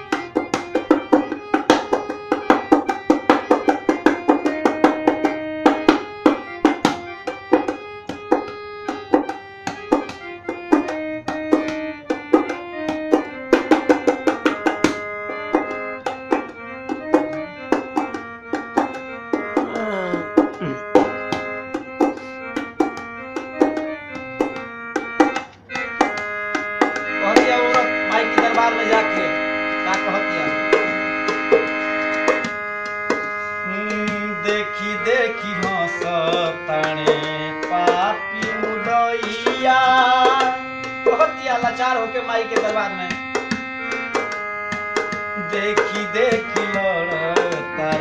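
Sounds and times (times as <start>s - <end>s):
hand drum rhythm: 0.0s - 29.1s, 29.9s - 34.4s, 35.1s - 41.7s, 42.5s - 48.0s
keyboard melody: 0.0s - 48.0s.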